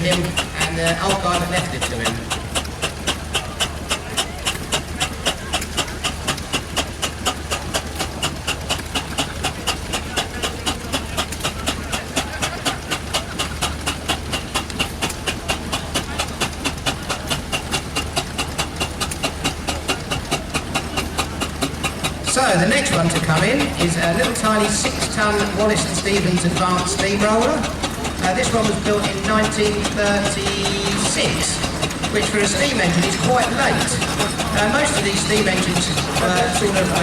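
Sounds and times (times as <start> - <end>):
steam engine beating: 0.0 - 37.0.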